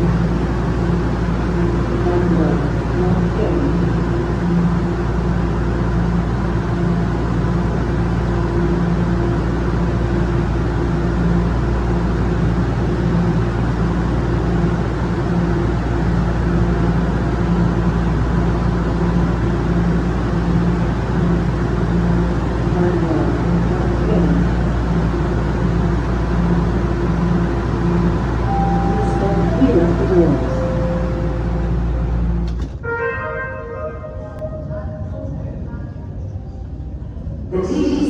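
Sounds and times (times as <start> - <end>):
subway train low hum: 0.0 - 38.0.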